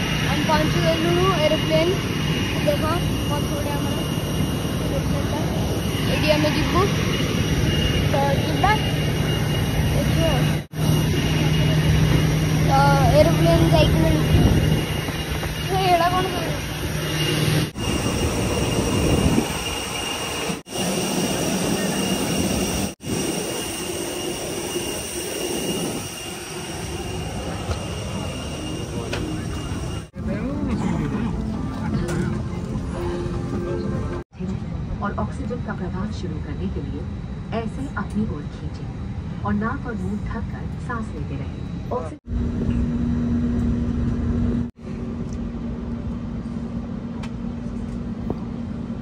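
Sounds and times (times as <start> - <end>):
jet engine roar with high whine: 0.0 - 49.0.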